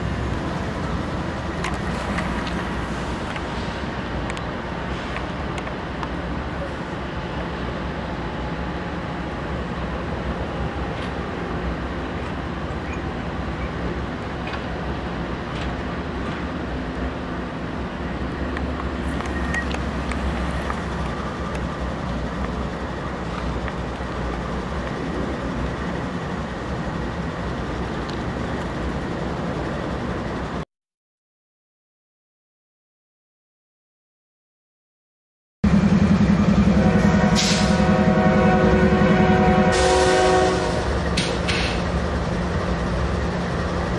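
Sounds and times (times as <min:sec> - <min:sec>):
diesel train rumble: 0:00.0 - 0:30.6, 0:35.6 - 0:43.9.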